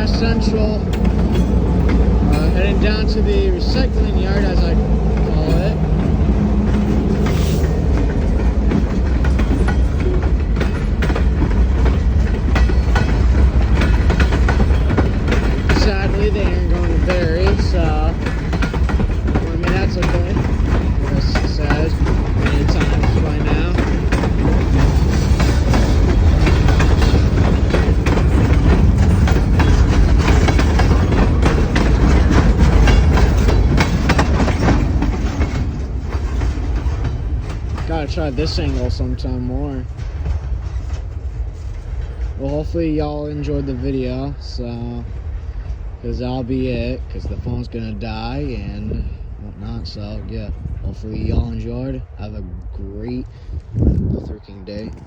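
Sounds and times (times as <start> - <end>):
freight train rumbling past: 0.0 - 55.0
wheels clicking on rails: 0.0 - 55.0.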